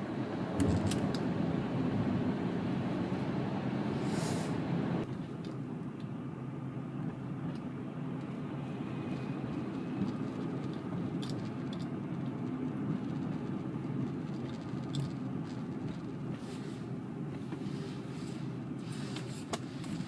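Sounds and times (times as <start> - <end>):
in-cabin road and engine noise: 0.0 - 20.0.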